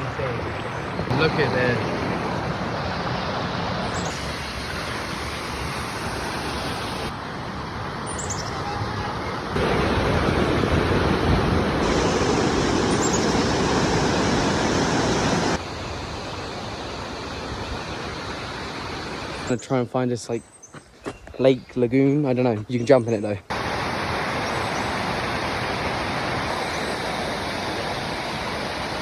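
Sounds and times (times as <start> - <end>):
waterfall rushing: 0.0 - 19.5, 23.5 - 29.0.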